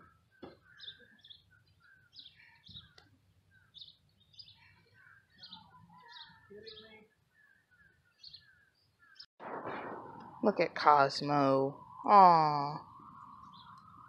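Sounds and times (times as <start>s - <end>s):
birds chirping: 0.0s - 9.3s, 10.0s - 14.0s.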